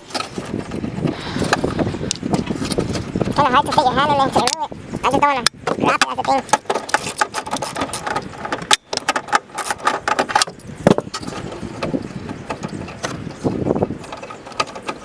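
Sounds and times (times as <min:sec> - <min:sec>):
fastener clicking and scraping: 0:00.0 - 0:15.0.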